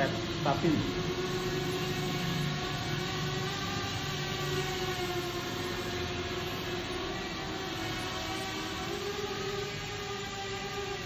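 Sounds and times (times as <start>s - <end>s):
quadcopter propellers whining: 0.0s - 11.0s.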